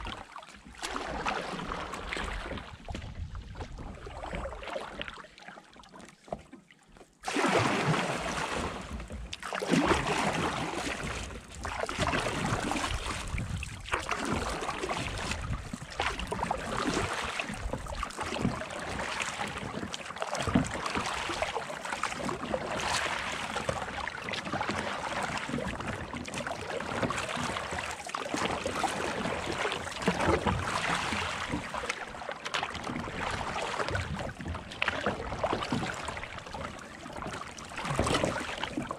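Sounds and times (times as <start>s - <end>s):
water splashing and lapping: 0.0s - 38.9s.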